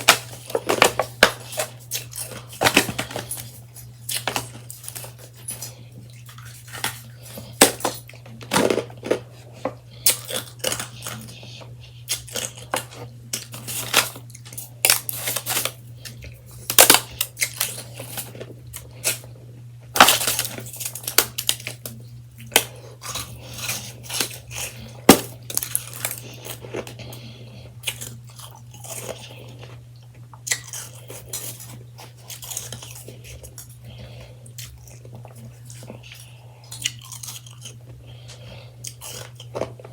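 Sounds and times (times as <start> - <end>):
crunching shaved ice: 0.0 - 9.3, 10.0 - 19.2, 19.9 - 29.8, 30.4 - 39.9
steady low hum: 0.0 - 39.9.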